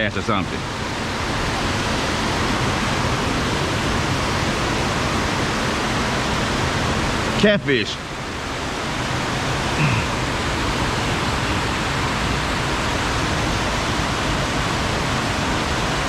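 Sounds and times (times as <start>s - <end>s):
fast-flowing water roaring: 0.0s - 16.0s.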